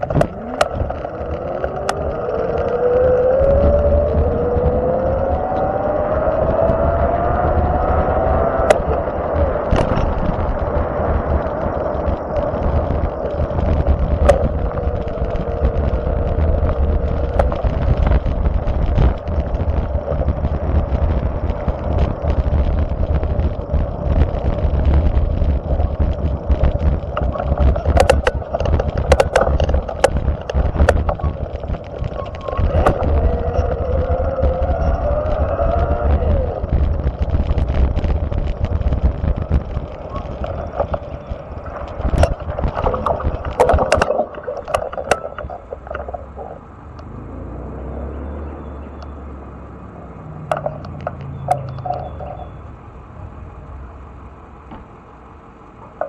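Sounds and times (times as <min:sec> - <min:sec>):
vehicle road rumble: 0:00.0 - 0:56.0
wavering whine: 0:00.0 - 0:56.0
wind buffeting microphone: 0:00.0 - 0:56.0.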